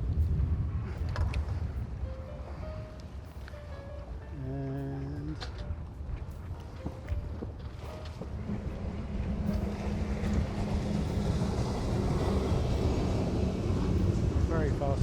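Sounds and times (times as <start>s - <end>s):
boat engines humming: 0.0s - 15.0s.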